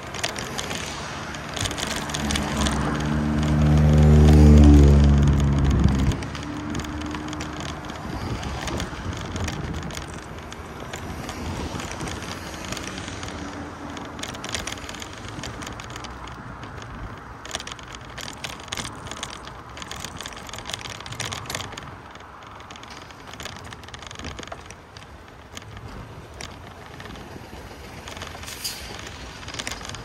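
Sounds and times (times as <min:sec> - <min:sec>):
clicks and rattles: 0:00.0 - 0:30.0
traffic rush: 0:00.0 - 0:30.0.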